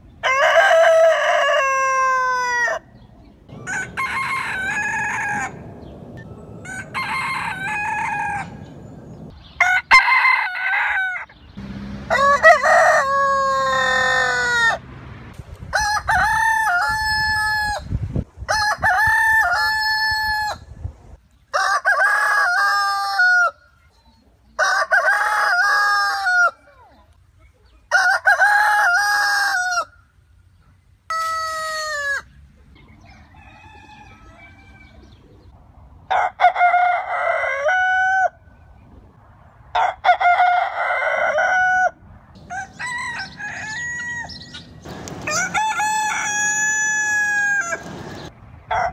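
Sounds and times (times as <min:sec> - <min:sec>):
roosters crowing: 0:00.1 - 0:14.9, 0:15.7 - 0:20.7, 0:21.5 - 0:23.7, 0:24.5 - 0:26.8, 0:27.9 - 0:30.2, 0:31.0 - 0:38.6, 0:39.7 - 0:48.9.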